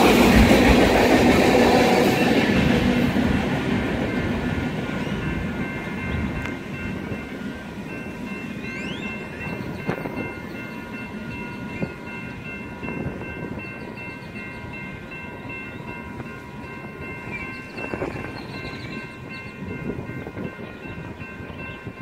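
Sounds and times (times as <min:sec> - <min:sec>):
freight train rumbling on rails: 0:00.0 - 0:22.0
high ringing tones: 0:04.0 - 0:22.0.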